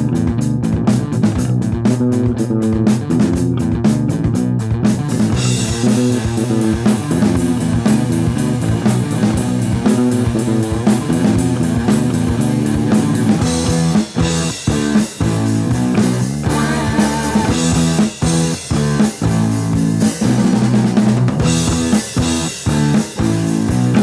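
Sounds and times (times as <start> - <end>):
instrumental rock band: 0.0 - 24.0.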